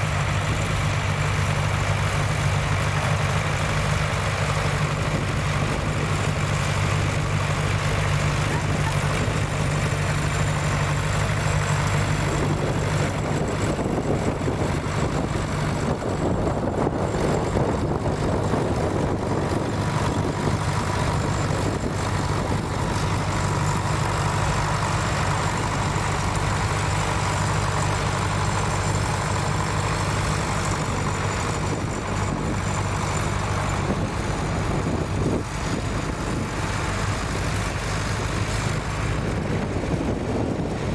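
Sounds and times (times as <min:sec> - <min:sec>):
tractor engine droning: 0:00.0 - 0:40.9.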